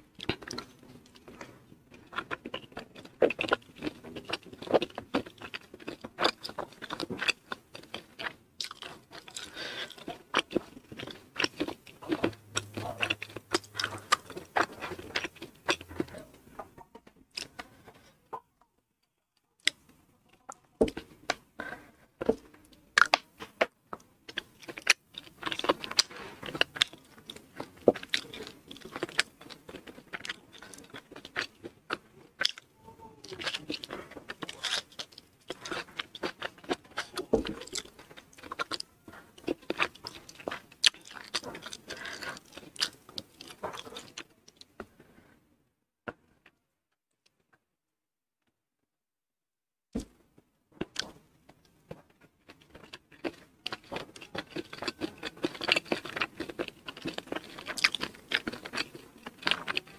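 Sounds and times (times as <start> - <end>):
chewing and crunching food: 0.0 - 18.8, 19.4 - 45.4, 50.0 - 59.9.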